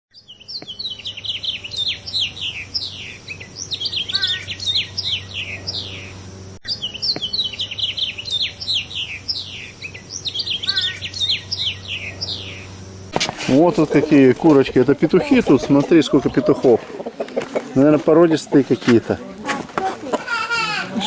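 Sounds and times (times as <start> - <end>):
small songbirds chirping: 0.1 - 19.4.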